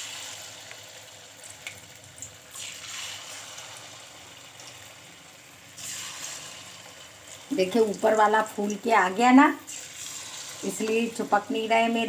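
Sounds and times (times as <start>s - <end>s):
fritters sizzling in oil: 0.0s - 12.0s.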